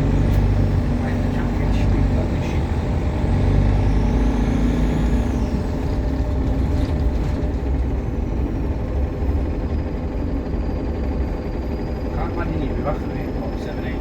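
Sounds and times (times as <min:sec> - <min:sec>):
bus engine rumble: 0:00.0 - 0:14.0
turbocharger whine: 0:00.0 - 0:14.0.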